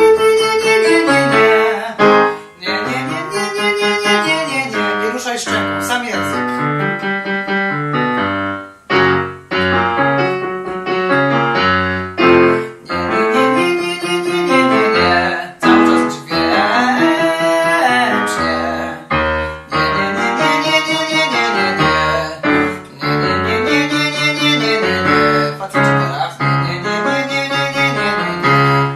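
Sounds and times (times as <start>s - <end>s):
man singing with vibrato: 0.0s - 7.0s, 11.1s - 28.9s
digital piano chords: 0.0s - 28.9s.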